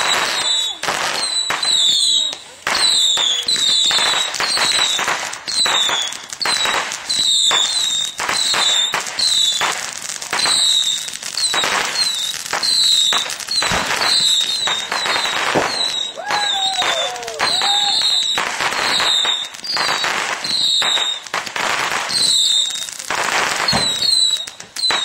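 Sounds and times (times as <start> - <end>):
high falling firework whistle: 0.0 - 9.7, 10.3 - 21.3, 22.1 - 25.0
fireworks bursting: 0.0 - 25.0.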